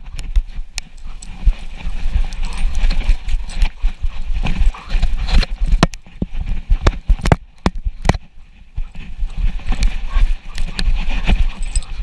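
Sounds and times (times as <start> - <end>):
dog paws thudding on snow: 0.2 - 12.0.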